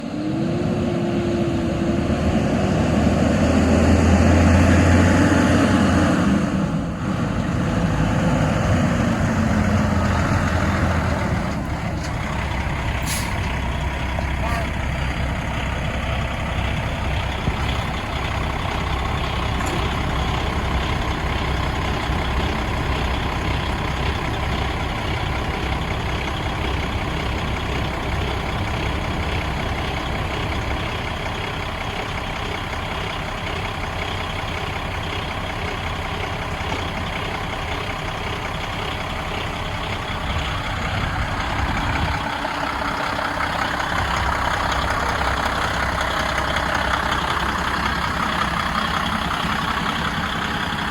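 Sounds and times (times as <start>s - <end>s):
truck diesel engine running: 0.0s - 50.9s.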